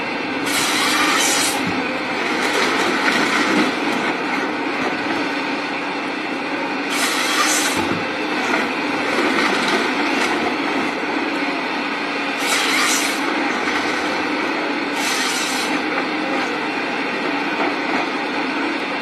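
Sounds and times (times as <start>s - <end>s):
forestry harvester engine and hydraulics: 0.0s - 19.0s.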